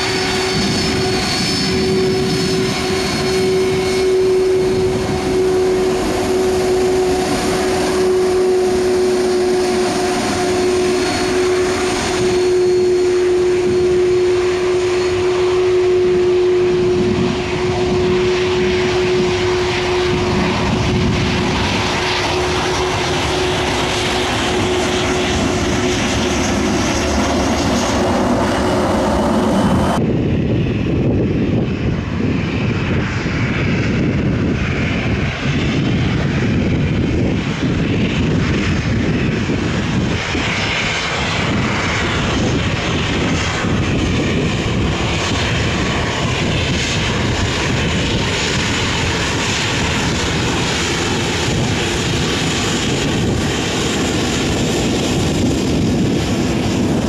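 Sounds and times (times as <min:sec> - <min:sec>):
airliner engines passing: 0:00.0 - 0:57.0
dull deep rumble: 0:00.6 - 0:57.0.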